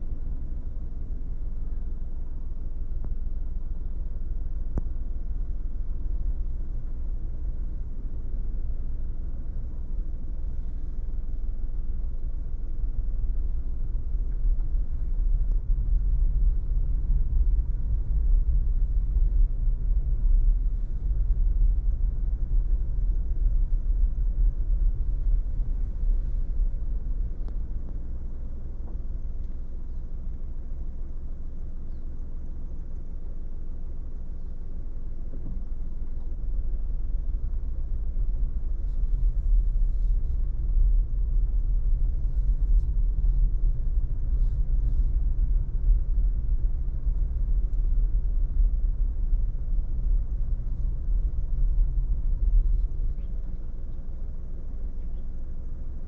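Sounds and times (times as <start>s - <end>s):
car road noise rumble: 0.0s - 56.0s.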